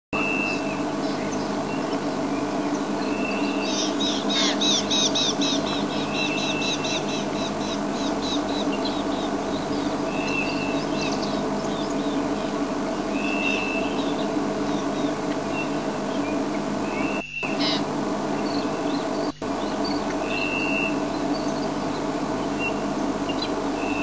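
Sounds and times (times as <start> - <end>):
birds chirping: 0.2 - 24.0
steady low hum: 0.2 - 24.0.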